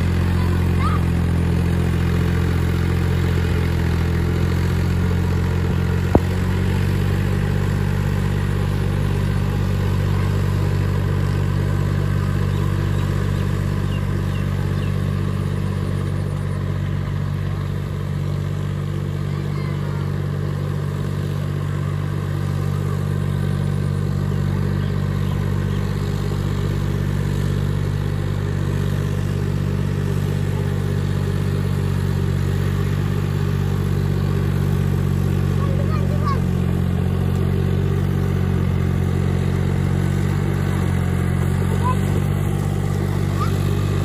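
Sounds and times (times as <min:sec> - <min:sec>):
tractor diesel engine droning: 0:00.0 - 0:44.0.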